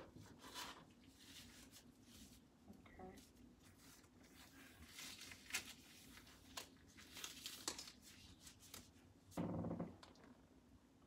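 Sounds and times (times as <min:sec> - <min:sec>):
gloves rustling on cloth: 0:00.2 - 0:09.1.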